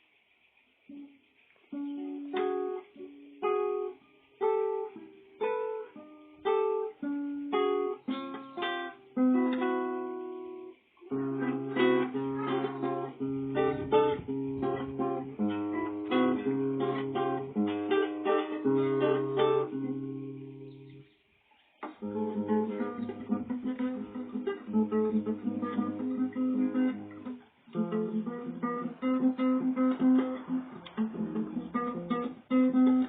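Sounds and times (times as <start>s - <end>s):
plucked string instrument: 0.9s - 21.0s, 21.8s - 33.0s.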